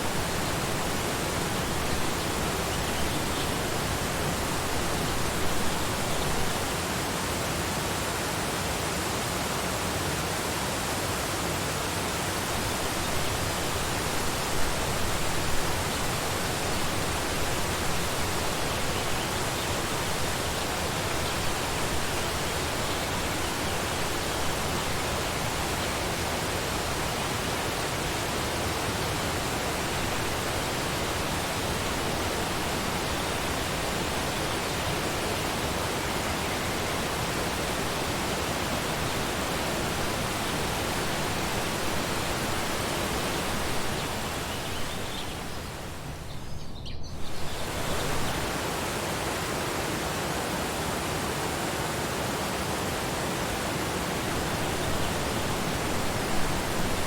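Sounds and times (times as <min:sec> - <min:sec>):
waterfall rushing: 0:00.0 - 0:46.2, 0:47.4 - 0:57.0.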